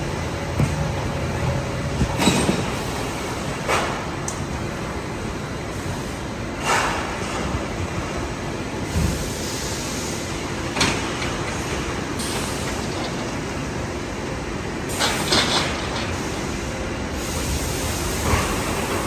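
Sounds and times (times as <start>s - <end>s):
factory machinery noise: 0.0s - 19.0s.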